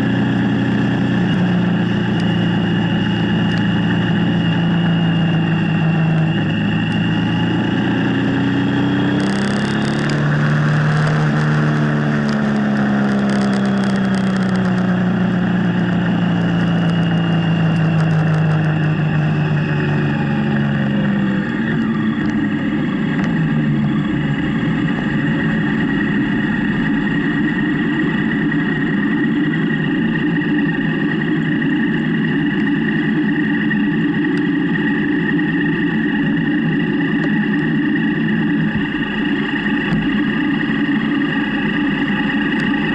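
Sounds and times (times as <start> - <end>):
constant rushing noise: 0.0 - 42.9
motorcycle engine running: 0.0 - 42.9.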